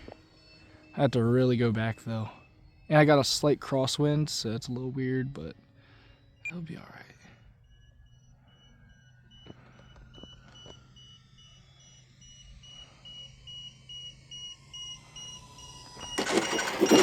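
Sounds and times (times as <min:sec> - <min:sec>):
electric motors throttling back: 0:00.0 - 0:06.5, 0:07.1 - 0:17.0
battery alarm rapid beeping: 0:00.0 - 0:17.0.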